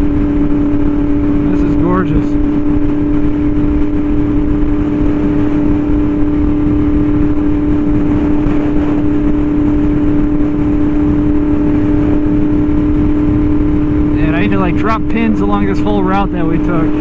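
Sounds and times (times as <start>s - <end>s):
motorcycle engine cruising: 0.0s - 17.0s
wind rumble on microphone: 0.0s - 17.0s.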